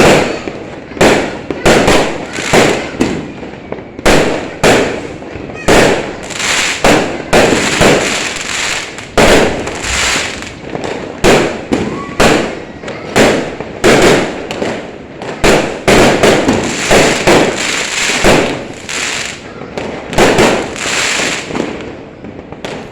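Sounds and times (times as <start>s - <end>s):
fireworks bangs echoing: 0.0s - 22.9s.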